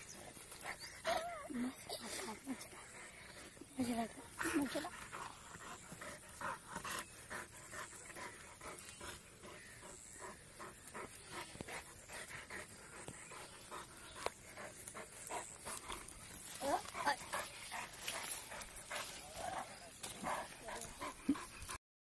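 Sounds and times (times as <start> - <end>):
large dog panting: 0.0 - 21.8.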